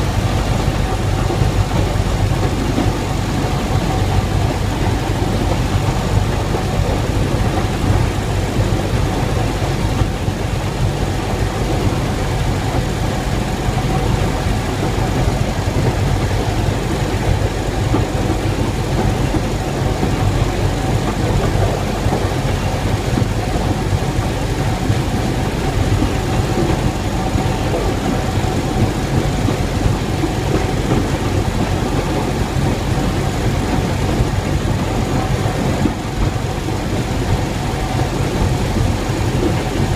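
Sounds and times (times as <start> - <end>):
railcar engine and running noise: 0.0 - 39.9.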